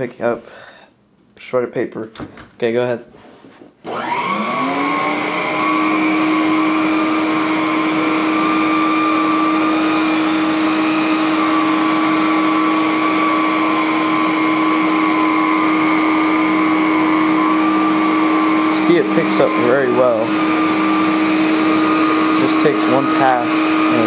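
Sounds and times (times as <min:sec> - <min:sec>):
vacuum cleaner motor whine: 0:03.8 - 0:24.0
vacuuming shredded paper: 0:03.9 - 0:24.0.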